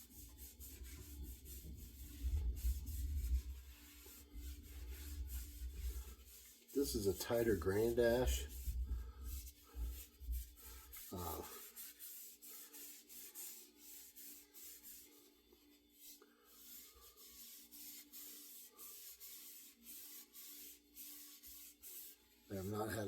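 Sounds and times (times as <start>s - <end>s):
rubbing on wooden handle: 0.0s - 23.0s.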